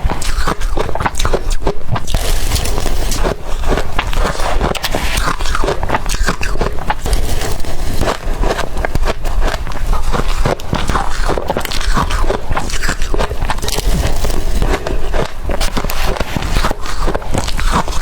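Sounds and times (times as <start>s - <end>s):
crushed ice being chewed: 0.0s - 18.0s.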